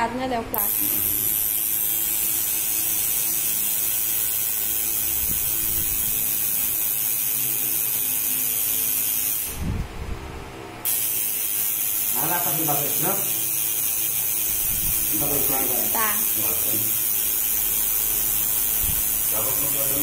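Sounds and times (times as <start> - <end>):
tattoo machine buzzing: 0.5 - 9.8, 10.8 - 20.0.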